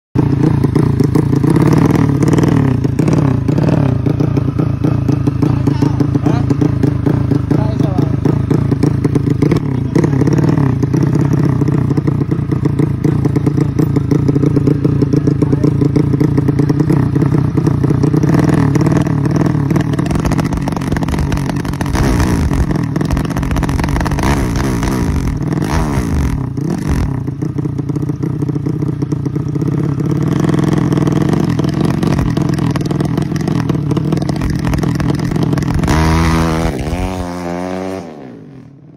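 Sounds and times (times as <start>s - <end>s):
motorcycle engine revving: 0.2s - 38.9s.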